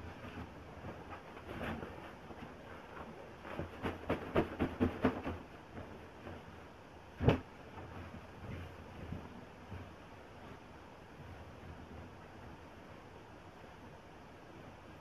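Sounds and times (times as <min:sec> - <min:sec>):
fabric rustling: 0:00.0 - 0:12.5.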